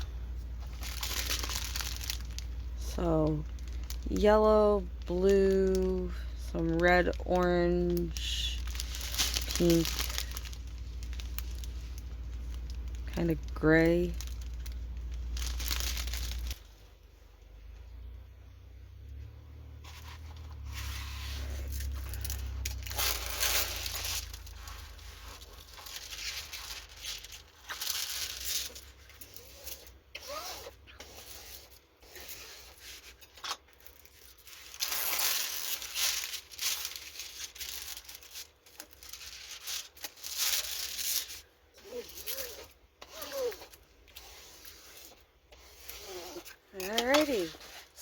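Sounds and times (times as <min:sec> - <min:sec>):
plastic packaging tearing and crinkling: 0:00.0 - 0:16.8, 0:19.8 - 0:48.0.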